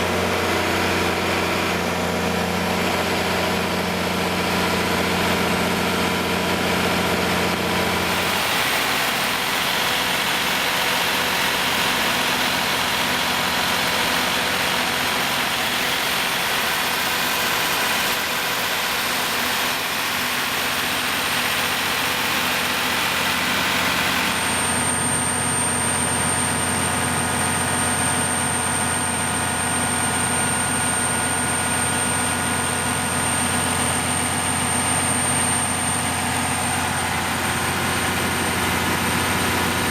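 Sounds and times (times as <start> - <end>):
diesel generator engine running: 0.0 - 39.9
high-pitched whine: 2.6 - 39.9.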